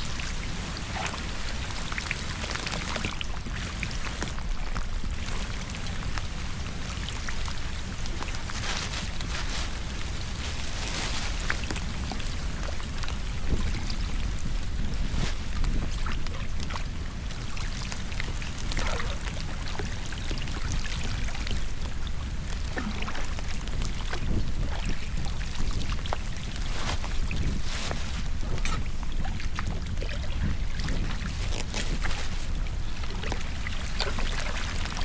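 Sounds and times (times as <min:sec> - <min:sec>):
water pouring into drain: 0:00.0 - 0:04.4, 0:05.1 - 0:35.0
small splashes and knocks: 0:00.0 - 0:35.0.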